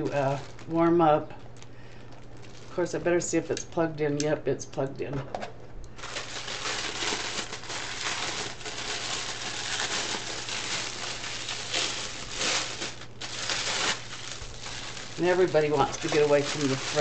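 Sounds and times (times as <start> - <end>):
plastic wrapping crinkling: 0.0 - 3.2, 6.0 - 17.0.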